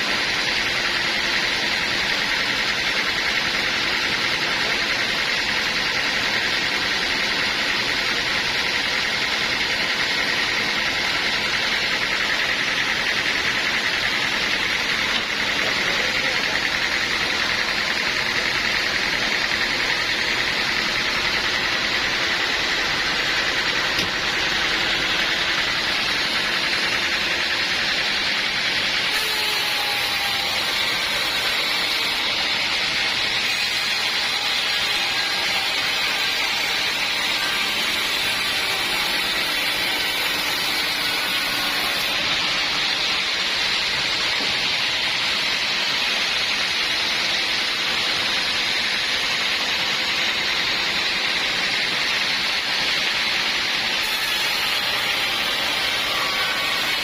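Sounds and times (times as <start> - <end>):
saw blade whining through wood: 0.0 - 57.0
sawmill engine running: 0.0 - 57.0.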